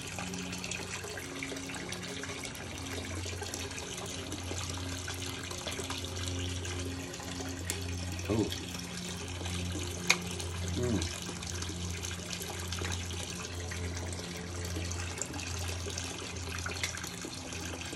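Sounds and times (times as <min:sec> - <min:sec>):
steady low hum: 0:00.0 - 0:17.9
water splashing into aquarium: 0:00.0 - 0:17.9.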